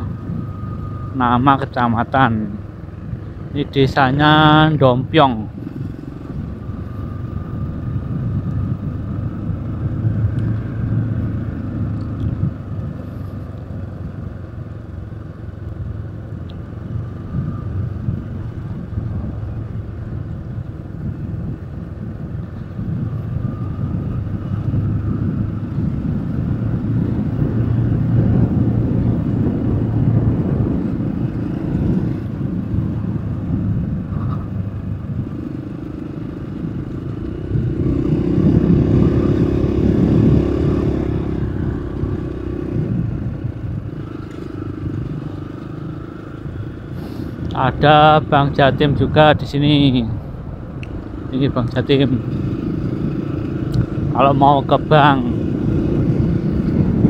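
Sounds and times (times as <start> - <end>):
wind noise: 0.0 - 14.6, 16.4 - 57.0
road rumble: 0.0 - 57.0
vehicle engine hum: 0.0 - 57.0.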